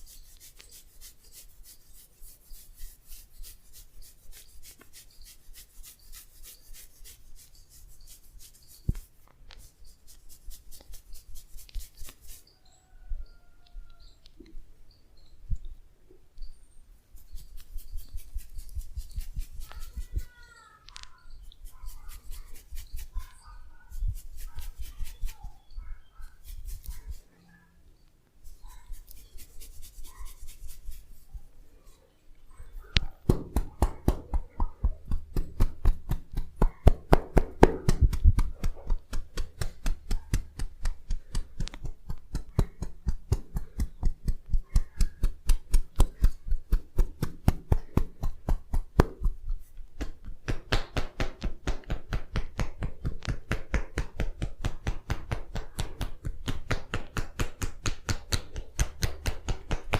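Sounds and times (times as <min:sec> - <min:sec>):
hands tapping and rubbing skin: 0:00.2 - 0:12.4, 0:17.2 - 0:25.6, 0:26.2 - 0:27.2, 0:28.4 - 0:31.3, 0:32.9 - 0:59.9.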